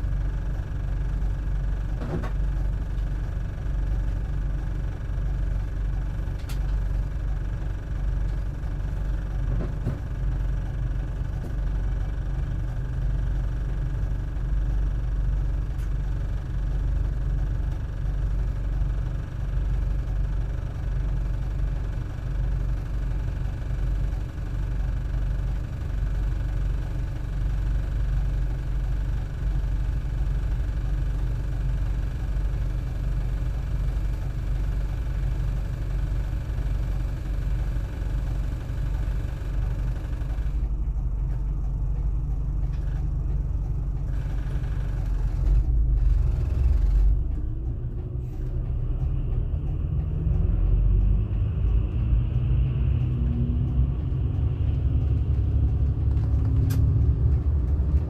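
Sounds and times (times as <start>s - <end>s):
bus diesel engine idling: 0.0s - 51.1s.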